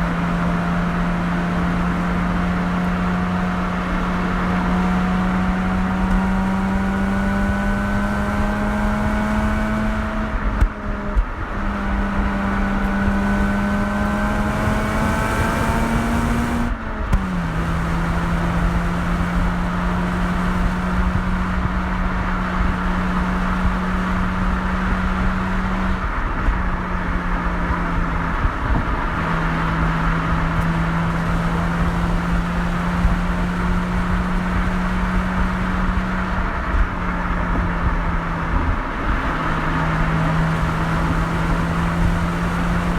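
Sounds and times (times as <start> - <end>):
rotary engine exhaust accelerating: 0.0 - 42.9.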